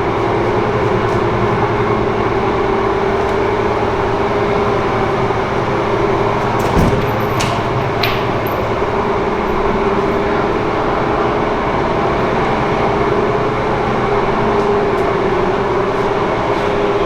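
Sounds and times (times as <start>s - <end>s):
loud machine drone: 0.0s - 17.0s.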